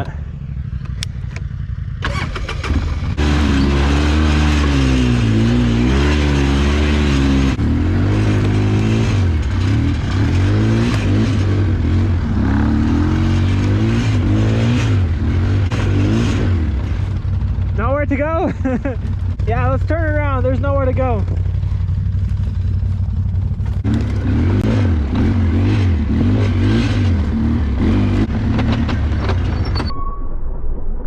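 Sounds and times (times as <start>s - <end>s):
atv engine revving: 0.0s - 29.6s.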